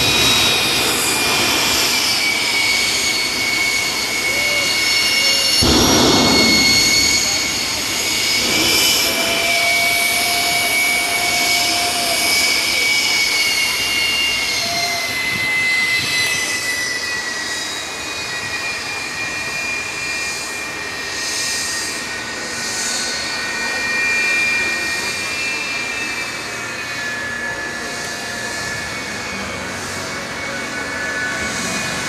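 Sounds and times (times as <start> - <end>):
jet engine rushing roar: 0.0 - 32.0
jet engine turbine whine: 0.0 - 32.0.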